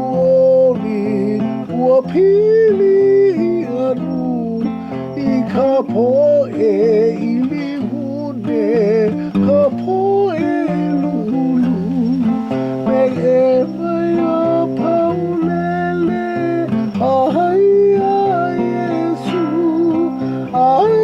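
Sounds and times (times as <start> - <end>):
person singing a slow hymn: 0.0 - 21.0
strummed acoustic guitar: 0.0 - 21.0.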